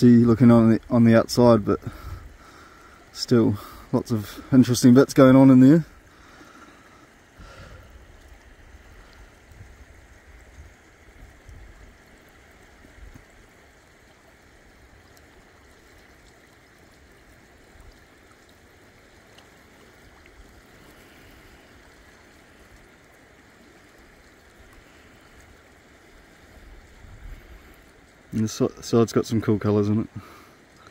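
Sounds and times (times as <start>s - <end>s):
river running over stones: 0.0s - 30.9s.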